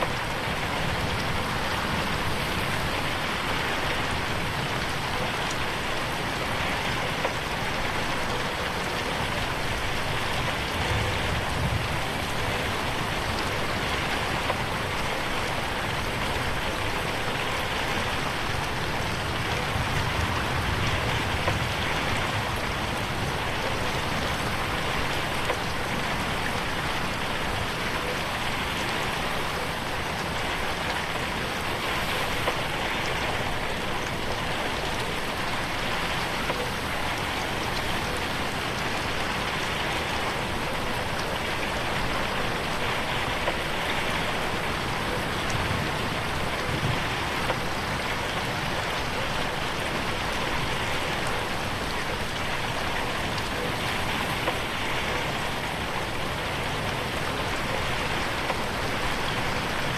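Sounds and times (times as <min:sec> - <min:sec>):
rain hitting a window: 0:00.0 - 0:59.9.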